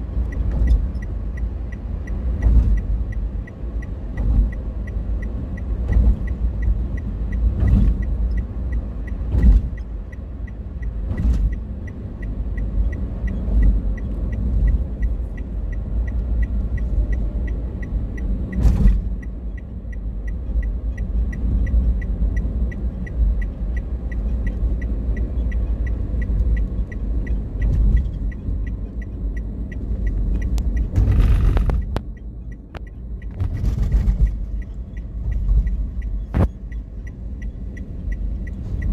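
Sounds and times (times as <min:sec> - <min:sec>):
car road rumble: 0:00.0 - 0:38.9
faint rapid ticking: 0:00.2 - 0:38.9.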